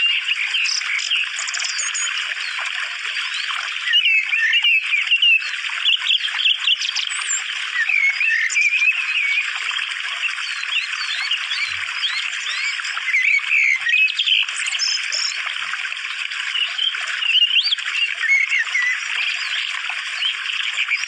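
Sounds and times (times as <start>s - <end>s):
songbirds chirping and whistling: 0.0s - 15.6s, 16.5s - 21.0s.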